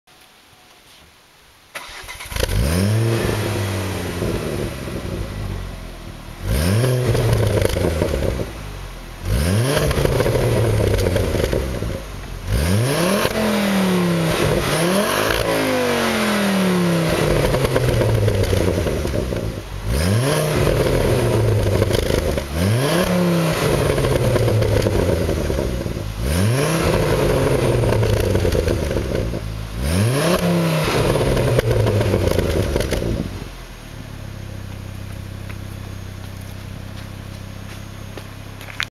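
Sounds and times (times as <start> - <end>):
car engine revving: 1.8 - 37.0.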